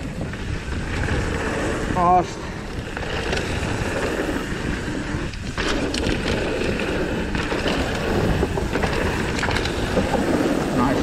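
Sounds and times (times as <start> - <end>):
bike rattling clicks and knocks: 0.0 - 11.0
bike tyres rushing over dirt: 0.0 - 11.0.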